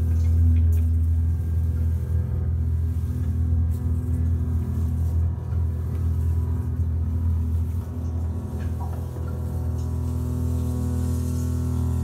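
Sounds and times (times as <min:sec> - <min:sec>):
deep low rumble drone: 0:00.0 - 0:12.0
sustained tones: 0:00.0 - 0:12.0.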